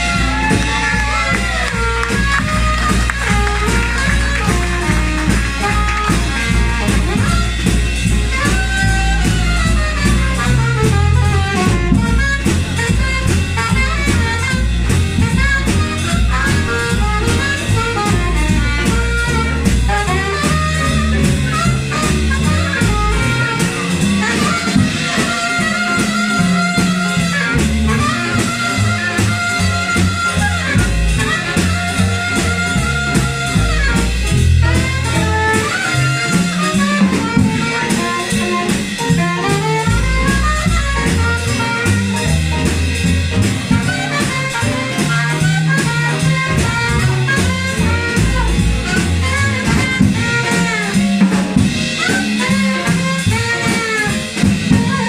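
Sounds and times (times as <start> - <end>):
bass: 0.0 - 55.0
drums and cymbals: 0.0 - 55.0
horn solo: 0.0 - 55.0.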